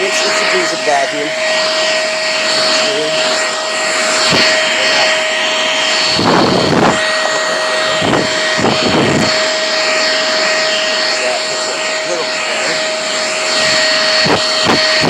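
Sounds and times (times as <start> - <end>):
vacuum cleaner rushes of noise: 0.0 - 15.0
vacuum cleaner whining: 0.0 - 15.0.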